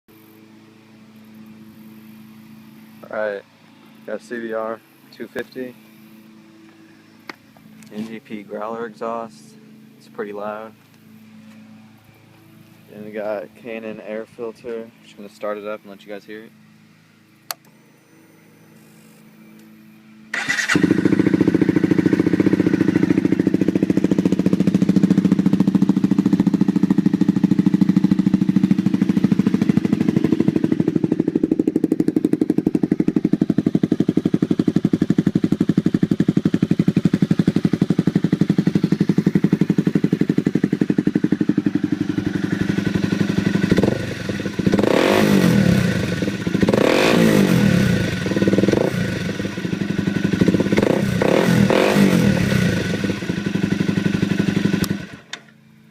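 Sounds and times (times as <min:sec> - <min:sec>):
motorcycle engine idling and revving: 0:00.1 - 0:55.9.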